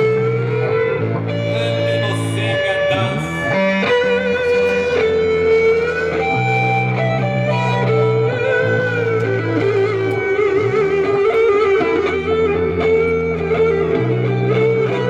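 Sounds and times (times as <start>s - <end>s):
low bass notes: 0.0s - 15.0s
wavering held melody: 0.0s - 15.0s.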